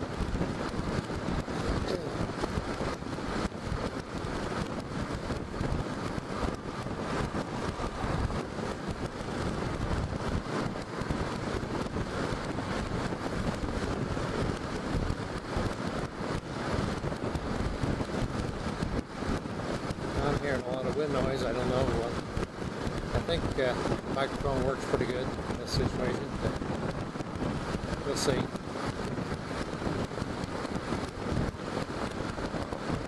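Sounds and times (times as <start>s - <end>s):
road noise: 0.0s - 33.0s
wind buffeting a microphone: 0.0s - 33.0s.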